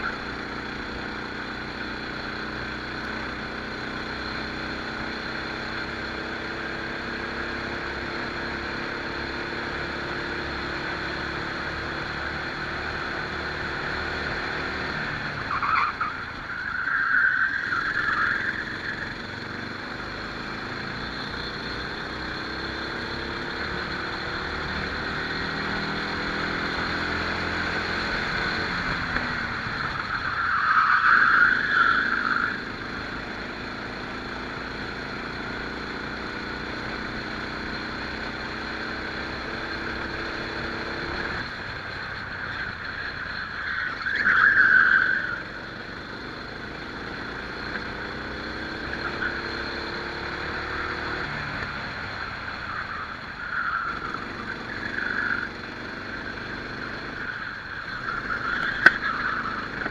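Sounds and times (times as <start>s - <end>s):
kart engine running at speed: 0.0s - 59.9s.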